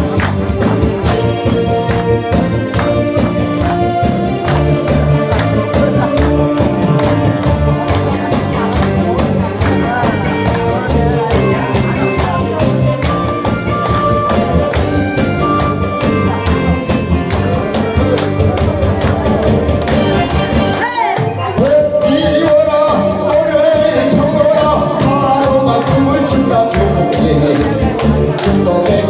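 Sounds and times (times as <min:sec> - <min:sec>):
audience clapping along: 0:00.0 - 0:20.9, 0:22.0 - 0:29.0
upbeat instrumental backing track: 0:00.0 - 0:29.0.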